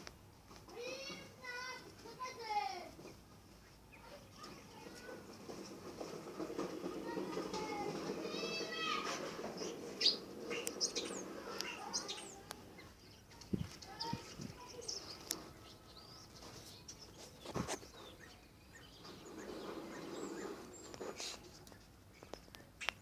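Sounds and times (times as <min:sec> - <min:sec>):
small birds chirping: 0:00.5 - 0:23.0.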